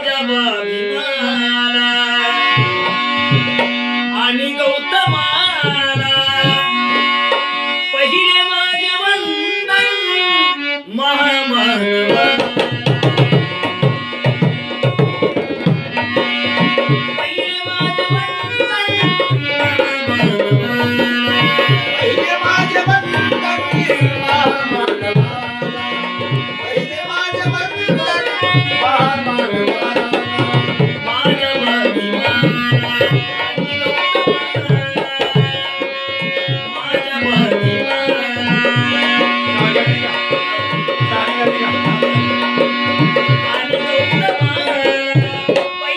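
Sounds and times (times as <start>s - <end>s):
person singing: 0.0s - 45.9s
tabla playing quick rhythm: 0.9s - 8.8s, 11.8s - 45.9s.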